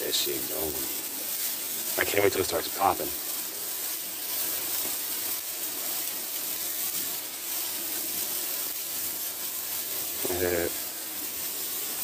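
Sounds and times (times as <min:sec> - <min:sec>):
sparklers hissing: 0:00.0 - 0:12.0.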